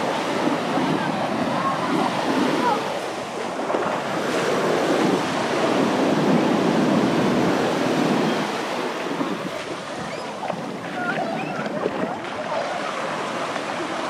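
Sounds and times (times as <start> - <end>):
sea surf breaking: 0.0 - 14.0.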